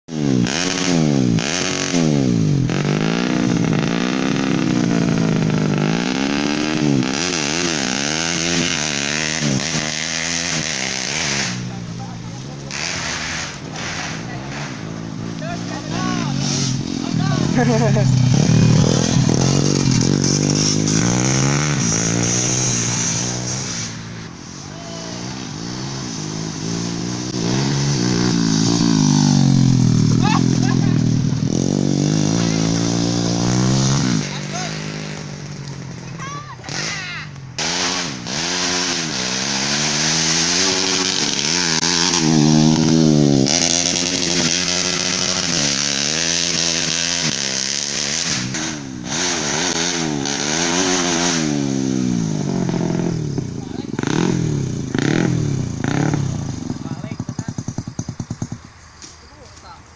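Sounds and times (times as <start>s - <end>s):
motorcycle engine revving: 0.0s - 59.8s.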